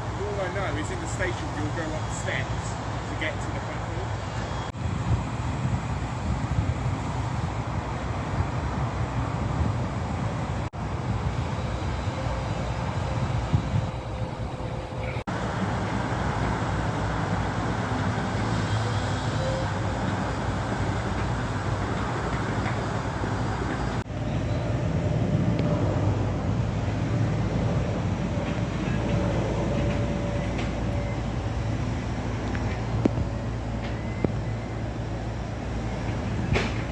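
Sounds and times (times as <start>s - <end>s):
diesel machinery rumbling: 0.0s - 36.9s.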